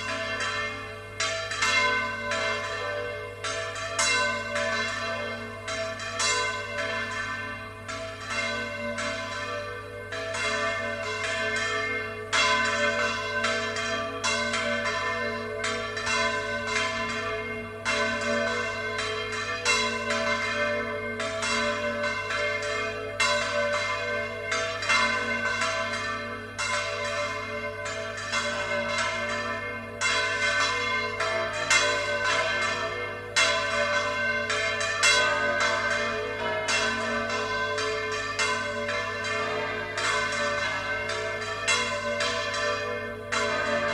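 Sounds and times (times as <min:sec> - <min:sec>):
church bells swinging and ringing: 0:00.0 - 0:43.9.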